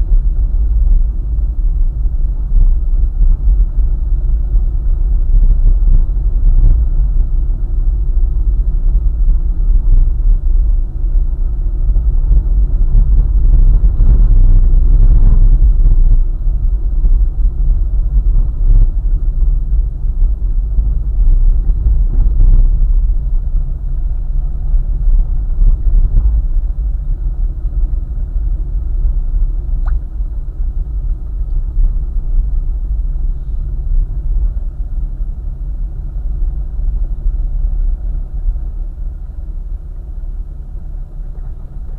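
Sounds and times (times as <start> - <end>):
car road rumble: 0.0 - 41.9.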